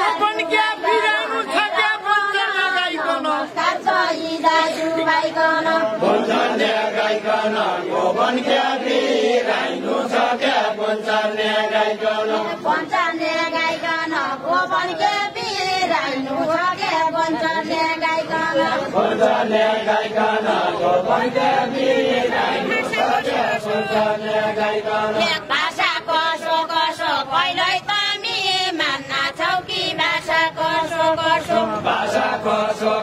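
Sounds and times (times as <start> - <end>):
men singing in chorus: 0.0 - 33.0.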